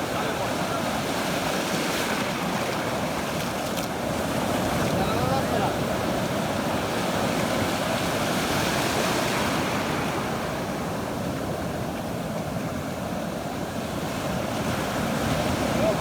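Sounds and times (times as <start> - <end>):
sea surf breaking on shore: 0.0 - 11.8, 12.6 - 16.0.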